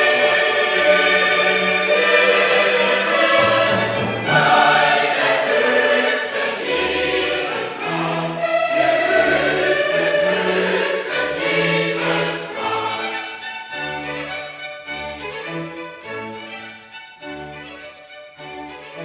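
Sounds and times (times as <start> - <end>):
choir singing with orchestra: 0.0 - 19.0.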